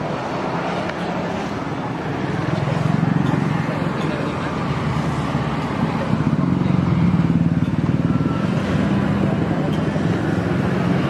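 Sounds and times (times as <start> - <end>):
motorbike engines droning: 0.0 - 11.0.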